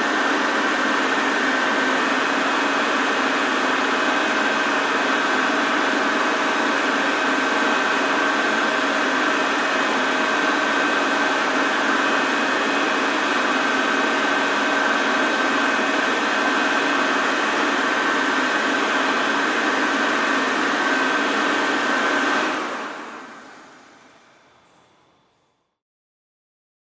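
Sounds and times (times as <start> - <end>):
washing machine whirring: 0.0 - 25.4.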